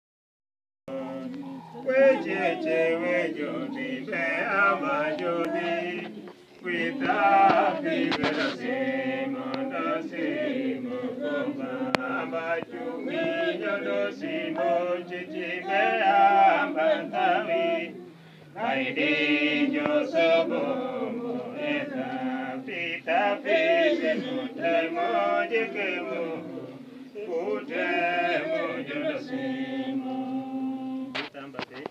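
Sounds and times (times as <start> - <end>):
church choir singing a hymn: 0.9 - 31.3.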